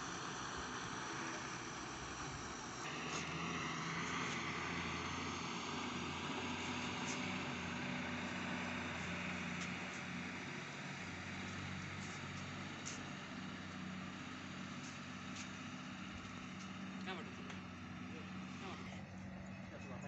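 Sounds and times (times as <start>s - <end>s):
heavy truck engine running: 0.0s - 20.0s
road noise: 0.0s - 20.0s.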